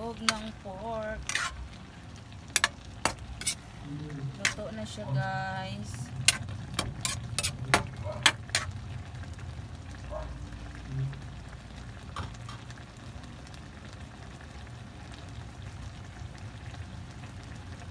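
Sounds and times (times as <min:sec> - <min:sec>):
food simmering and bubbling in a wok: 0:00.0 - 0:17.9.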